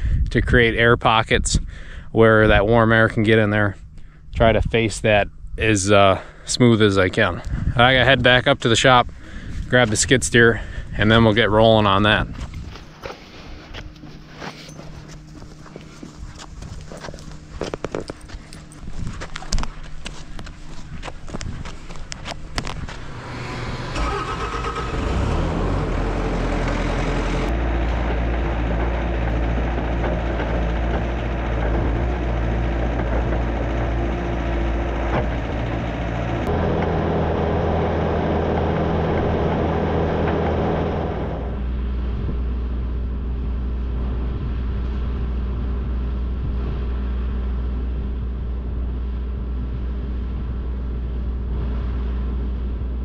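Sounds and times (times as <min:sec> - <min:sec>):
skid steer engine running: 0:10.6 - 0:53.0.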